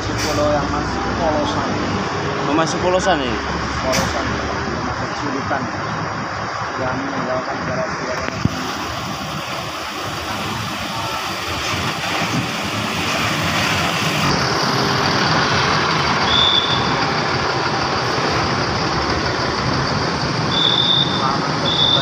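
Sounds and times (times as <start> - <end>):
diesel bus engine: 0.0 - 22.0
road noise: 0.0 - 22.0.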